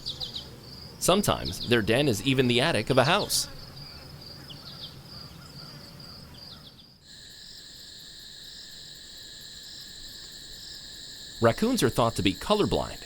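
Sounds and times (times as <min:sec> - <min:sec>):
crickets trilling: 0:00.0 - 0:13.0
insect chorus of steady pitches: 0:00.0 - 0:13.0.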